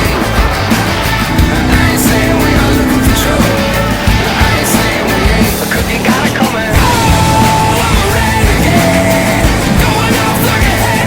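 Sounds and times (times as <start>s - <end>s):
loud rock music with singing: 0.0s - 11.0s.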